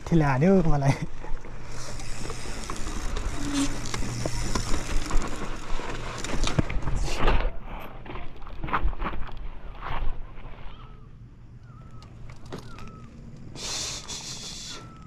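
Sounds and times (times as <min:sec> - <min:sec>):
bike rattling and clicking: 0:00.0 - 0:10.1, 0:11.6 - 0:15.0
mountain bike rolling over rough ground: 0:00.0 - 0:13.6.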